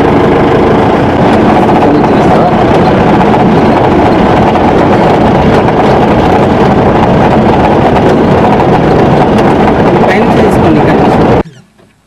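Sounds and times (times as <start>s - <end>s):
vehicle cabin rumble on rough road: 0.0s - 12.0s.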